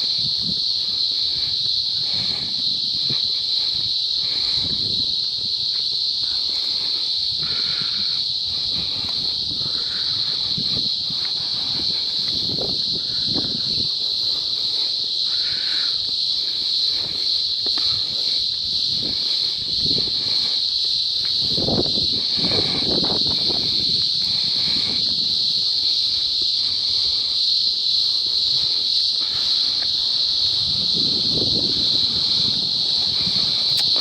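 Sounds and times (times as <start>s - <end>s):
cicadas droning: 0.0s - 34.0s.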